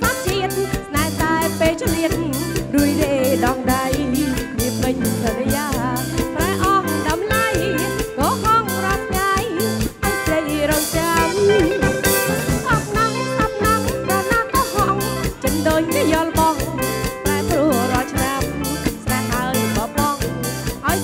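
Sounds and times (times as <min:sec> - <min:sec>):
drum kit beat: 0:00.0 - 0:21.0
electric guitar: 0:00.0 - 0:21.0
woman singing into a microphone: 0:00.0 - 0:21.0.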